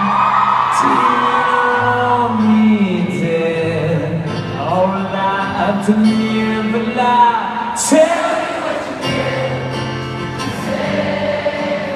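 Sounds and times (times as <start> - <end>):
acoustic guitar: 0.0 - 11.9.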